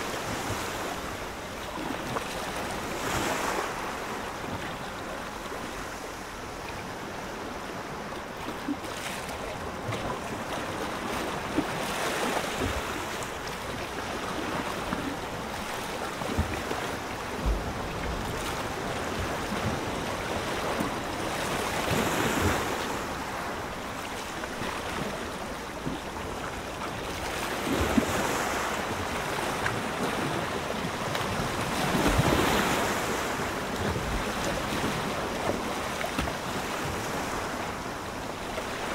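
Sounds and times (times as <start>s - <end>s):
waves washing in and out: 0.0s - 38.9s.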